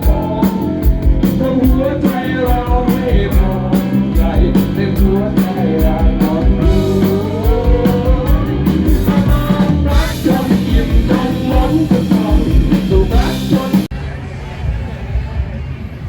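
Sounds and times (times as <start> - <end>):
steady drum beat: 0.0 - 13.9
rock song with singing: 0.0 - 14.1.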